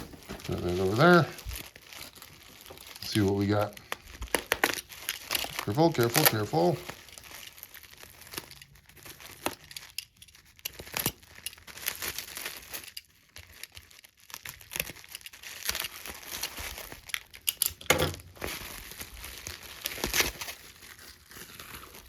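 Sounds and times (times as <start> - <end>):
bubble wrap crinkling: 0.0 - 22.0.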